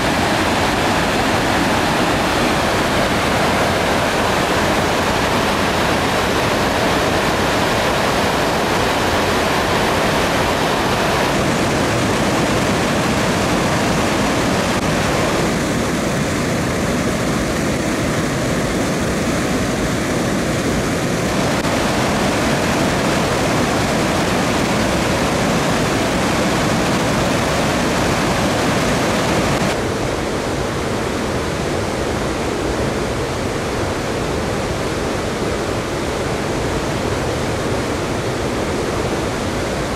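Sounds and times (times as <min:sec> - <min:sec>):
turbulent water rushing: 0:00.0 - 0:39.9.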